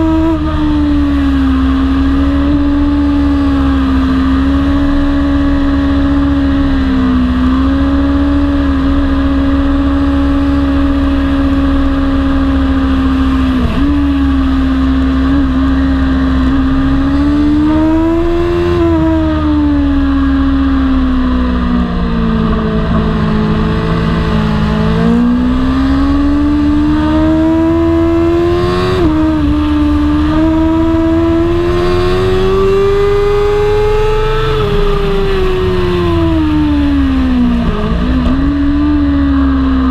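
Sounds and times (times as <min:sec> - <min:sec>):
motorcycle engine at racing speed: 0:00.0 - 0:39.9.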